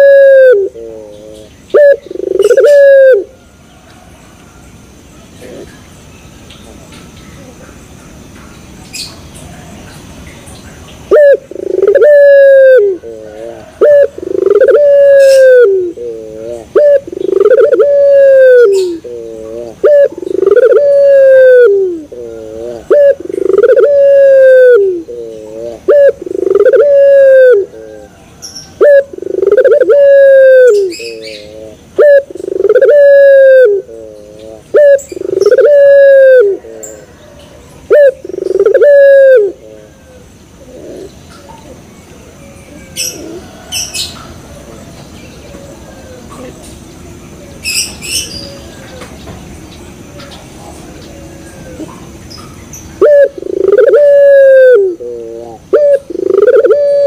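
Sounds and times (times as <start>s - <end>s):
dove cooing: 0.0s - 4.2s, 5.3s - 5.8s, 11.1s - 49.3s, 50.1s - 57.0s.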